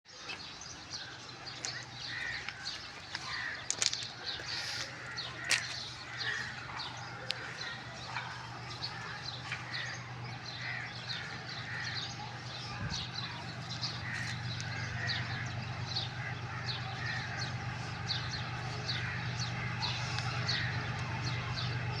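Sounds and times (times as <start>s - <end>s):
birds chirping: 0.1s - 22.0s
steady low hum: 4.2s - 22.0s.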